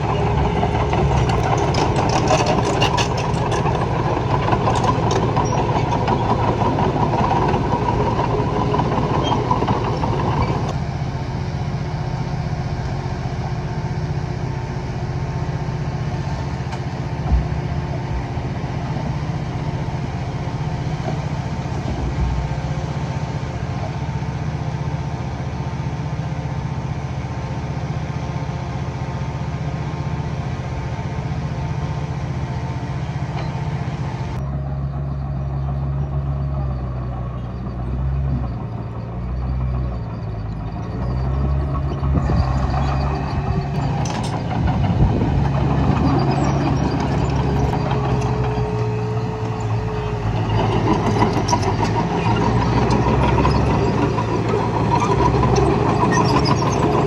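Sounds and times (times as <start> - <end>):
heavy machine engine working hard: 0.0 - 57.0.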